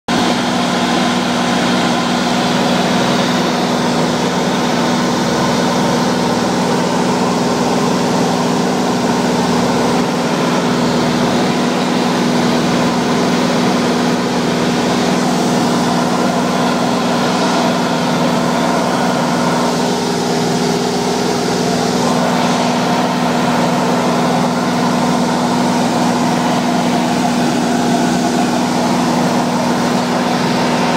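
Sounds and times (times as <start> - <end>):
light aircraft engine drone: 0.1 - 30.9.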